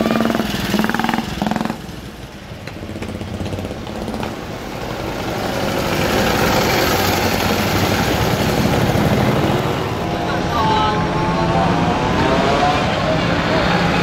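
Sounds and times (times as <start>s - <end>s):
motorcycle engines passing: 0.0s - 14.0s.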